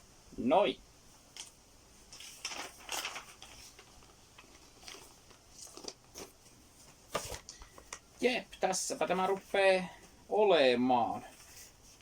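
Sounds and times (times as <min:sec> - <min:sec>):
paper sleeves rustling and scraping: 0:01.1 - 0:08.0, 0:08.7 - 0:12.0.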